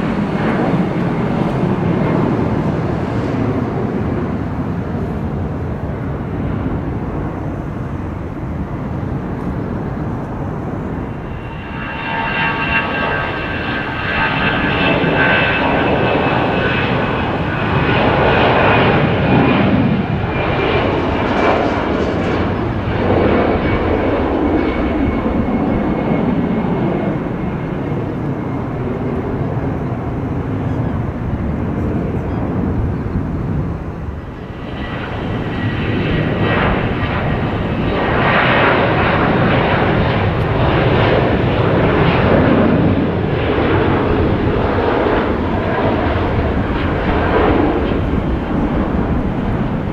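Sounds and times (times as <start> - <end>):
airliner engines passing: 0.0 - 49.9.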